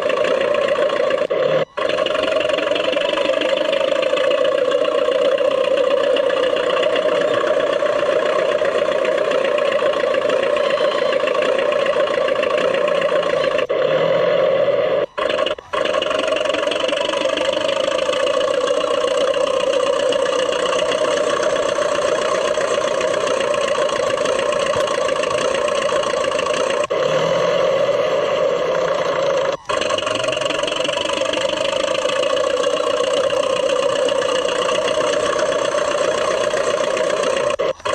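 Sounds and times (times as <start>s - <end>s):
model bulldozer mechanical drone: 0.0s - 37.9s.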